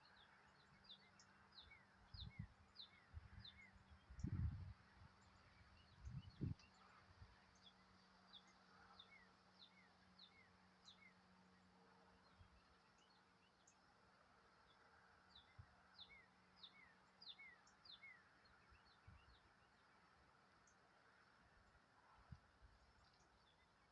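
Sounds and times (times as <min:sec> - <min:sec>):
small birds chirping: 0:00.0 - 0:21.9, 0:22.7 - 0:23.9.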